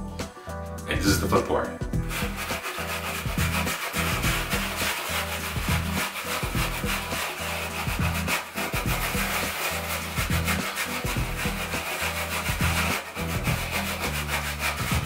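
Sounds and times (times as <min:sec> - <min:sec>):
background music with bass: 0:00.0 - 0:15.0
brush scratching through wet hair: 0:02.0 - 0:15.0.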